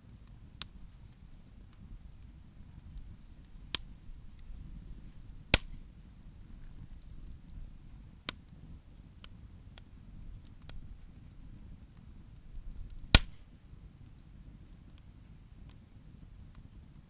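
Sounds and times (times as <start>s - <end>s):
bonfire crackling: 0.0s - 17.0s
burning wood popping: 0.0s - 17.0s
low steady rumble: 0.0s - 17.0s.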